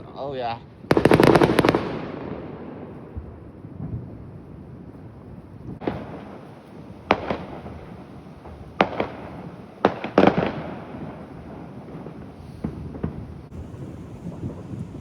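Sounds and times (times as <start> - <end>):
fireworks bangs and pops: 0.9 - 15.0.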